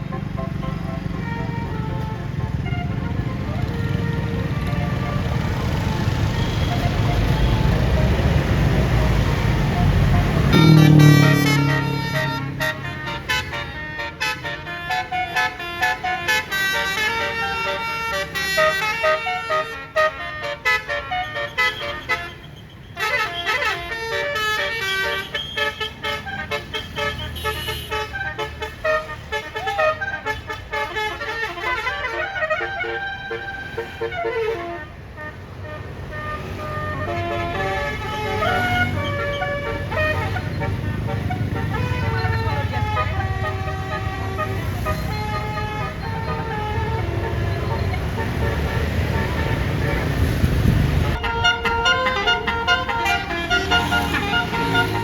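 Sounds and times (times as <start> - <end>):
bus horn playing melody: 0.0 - 55.0
low rumble of bus: 0.0 - 55.0.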